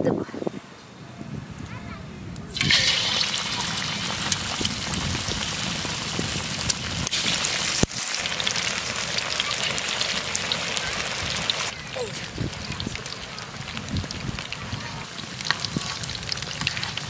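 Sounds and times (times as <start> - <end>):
chicken frying in hot oil: 2.5 - 17.0.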